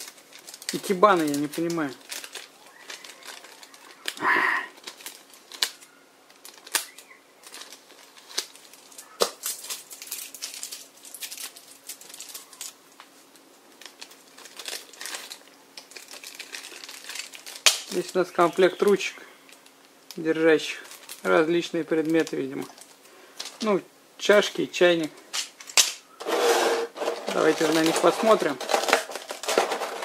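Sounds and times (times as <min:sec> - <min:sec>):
plastic packaging crinkling: 0:00.0 - 0:23.8, 0:25.0 - 0:30.0.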